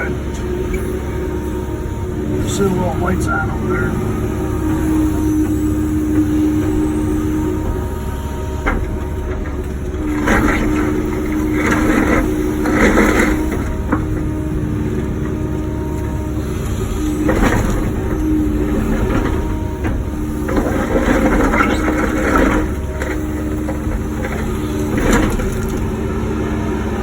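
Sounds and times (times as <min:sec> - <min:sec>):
excavator diesel and hydraulic hum: 0:00.0 - 0:27.0
bucket scraping and crunching: 0:02.2 - 0:26.2.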